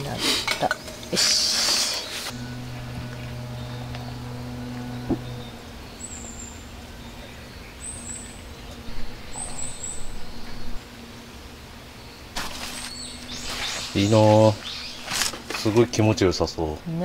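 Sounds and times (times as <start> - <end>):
low hum: 0.7 - 17.0
small bird chirping: 1.8 - 15.9.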